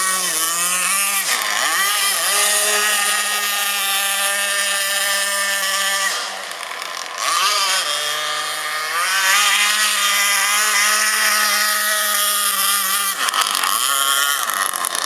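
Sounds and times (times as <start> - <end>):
two-stroke boat engine running: 0.0 - 15.0.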